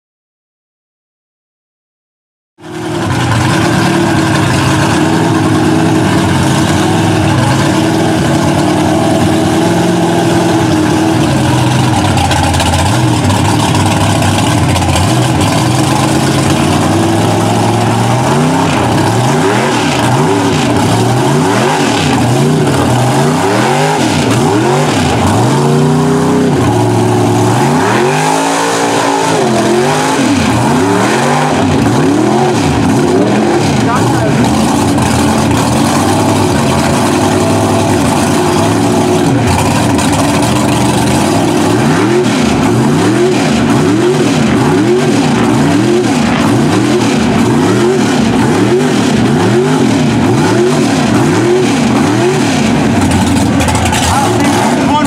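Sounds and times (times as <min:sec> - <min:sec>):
truck churning through mud: 0:02.6 - 0:55.0
truck engine revving: 0:02.6 - 0:55.0.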